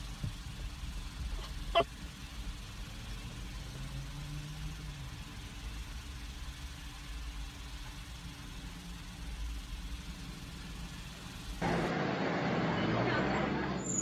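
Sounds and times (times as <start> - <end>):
car engine idling: 0.0 - 13.7
street traffic noise: 0.0 - 14.0.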